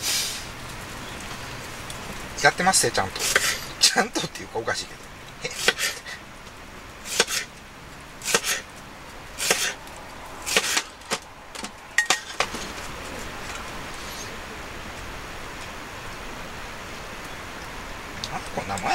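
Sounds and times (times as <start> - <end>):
steady hiss: 0.0 - 18.9.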